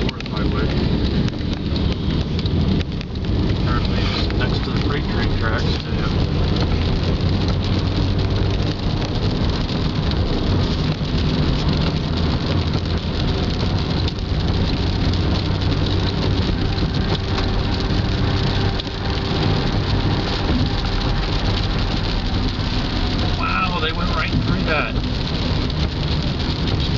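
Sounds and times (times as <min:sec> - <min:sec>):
car engine hum: 0:00.0 - 0:26.9
rain on car: 0:00.0 - 0:26.9
tyres hissing on wet road: 0:00.0 - 0:26.9.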